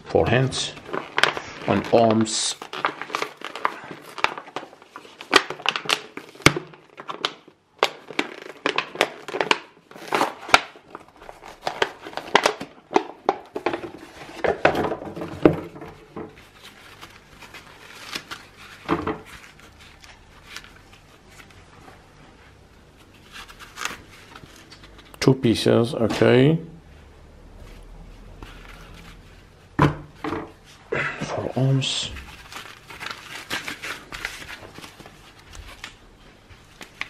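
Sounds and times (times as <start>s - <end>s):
packaging crinkling: 0.1s - 22.1s, 22.9s - 25.3s, 27.6s - 29.5s, 31.6s - 37.0s.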